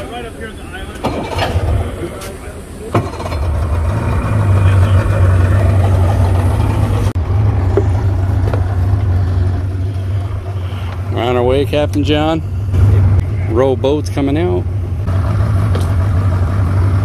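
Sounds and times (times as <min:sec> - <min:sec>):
outboard motor idling: 0:01.1 - 0:17.0.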